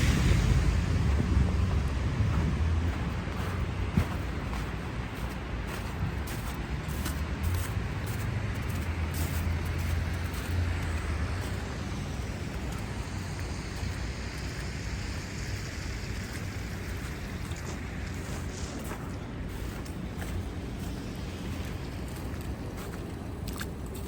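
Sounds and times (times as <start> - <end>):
passing cars hum: 0.0 - 24.0
vehicle engine rumble: 0.0 - 24.0.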